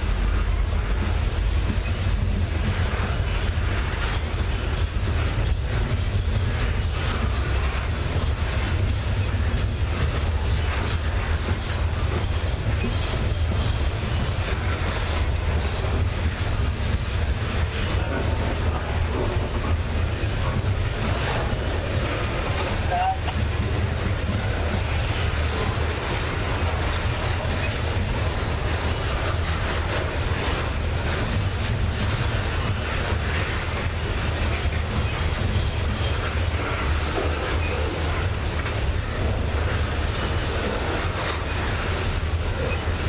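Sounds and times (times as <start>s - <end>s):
wheels clattering over rails: 0.0s - 43.0s.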